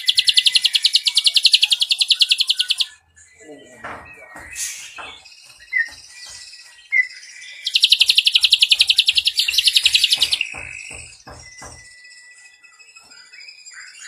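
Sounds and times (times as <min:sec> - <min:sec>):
bird chirps and rattling trill: 0:00.0 - 0:03.0, 0:04.1 - 0:14.0.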